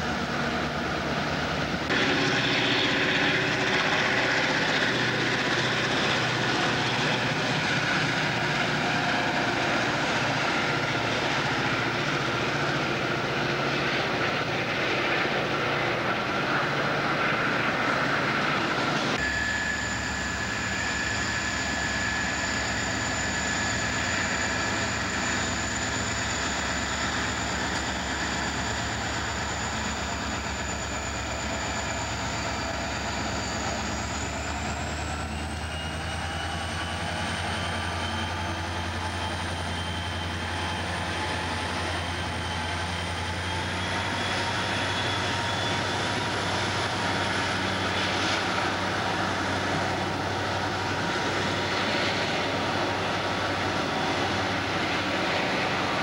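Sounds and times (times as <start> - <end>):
high whine: 0.0 - 56.0
locomotive engine throb: 0.0 - 56.0.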